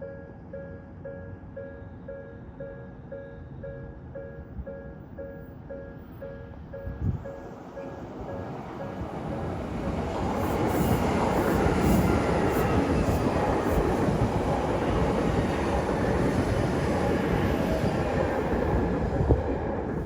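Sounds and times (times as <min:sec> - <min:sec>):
electric train running on tracks: 0:00.0 - 0:20.0.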